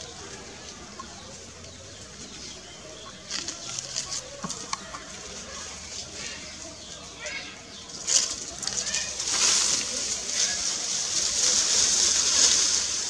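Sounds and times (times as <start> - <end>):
dry grass and twigs crackling: 0.0 - 13.0
outdoor background: 0.0 - 13.0.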